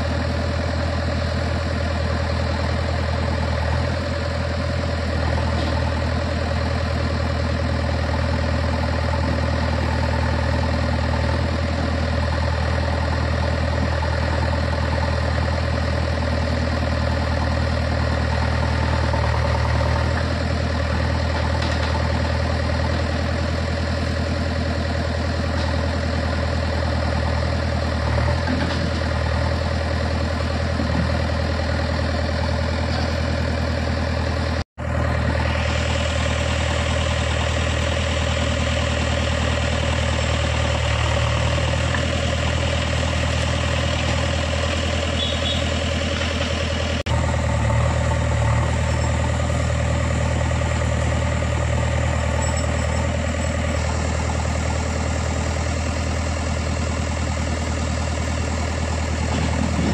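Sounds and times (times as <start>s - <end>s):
diesel machinery idling: 0.0s - 59.9s.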